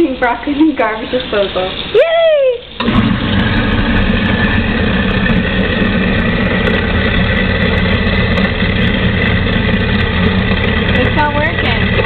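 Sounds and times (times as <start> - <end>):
garbage disposal motor humming: 0.0 - 12.0.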